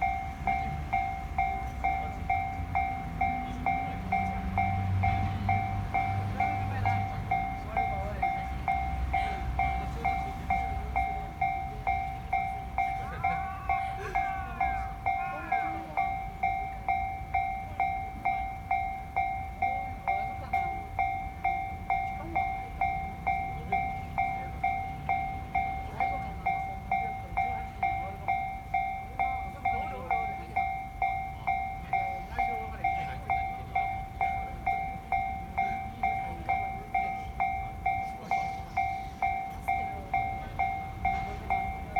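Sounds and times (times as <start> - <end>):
level crossing warning bell: 0.0 - 41.9
train rumble: 0.0 - 41.9.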